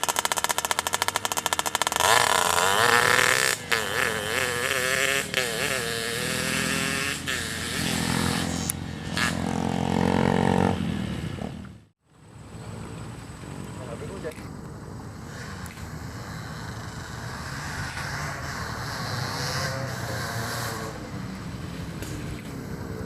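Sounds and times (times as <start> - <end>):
two-stroke engine revving: 0.0 - 11.9, 15.1 - 23.0.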